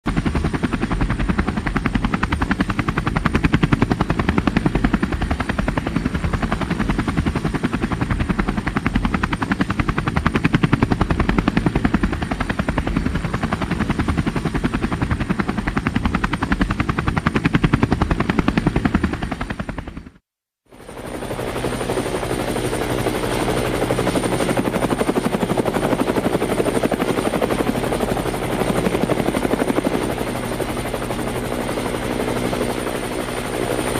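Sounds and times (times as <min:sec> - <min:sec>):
helicopter rotor chopping: 0:00.1 - 0:33.9.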